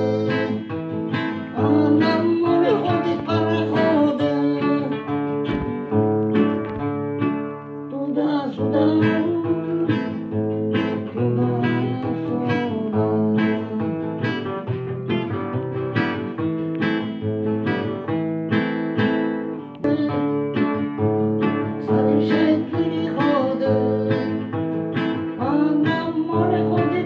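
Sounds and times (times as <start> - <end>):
acoustic guitar strummed chords: 0.0 - 27.0.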